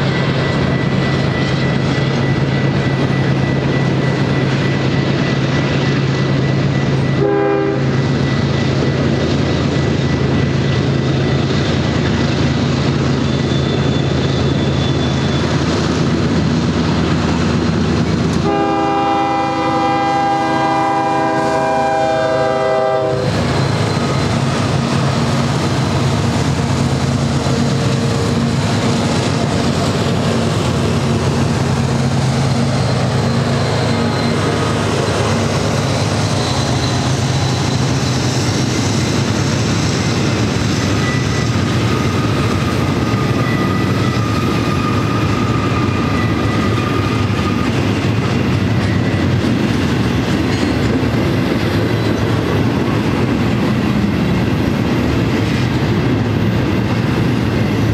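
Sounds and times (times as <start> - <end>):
high wheel squeals: 0.0 - 18.8, 19.4 - 53.2
locomotive drone: 0.0 - 57.9
train wheels rumbling on rails: 0.0 - 57.9.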